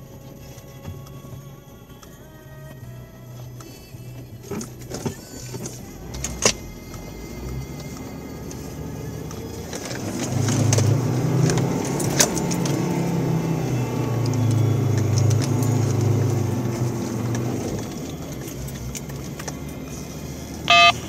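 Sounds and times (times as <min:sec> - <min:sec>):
car engine under load: 0:00.0 - 0:21.0
loose items rattling in cab: 0:00.0 - 0:21.0.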